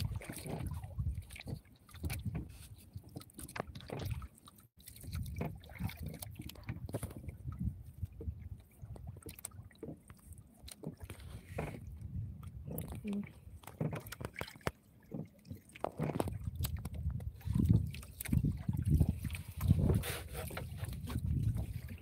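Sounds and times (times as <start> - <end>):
boat knocks and bumps: 0.0 - 4.3, 5.0 - 22.0
water lapping against boat: 0.0 - 22.0.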